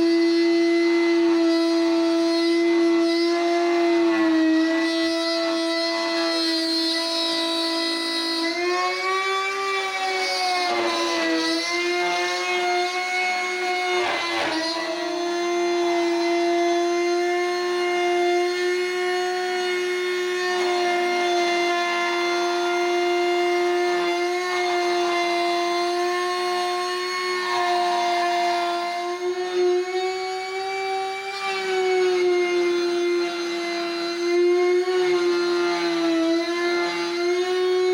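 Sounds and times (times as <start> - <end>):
router spindle whining: 0.0 - 37.9.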